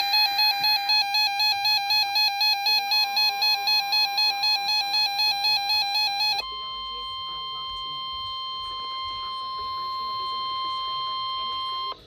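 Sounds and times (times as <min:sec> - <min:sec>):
radio alert alarm beeping: 0:00.0 - 0:12.0
steady warning tone: 0:00.0 - 0:12.0.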